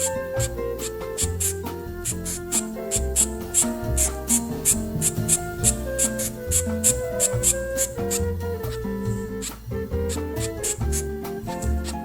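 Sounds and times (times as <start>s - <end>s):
hi-hat ticking: 0.0s - 12.0s
music with held notes and bass: 0.0s - 12.0s.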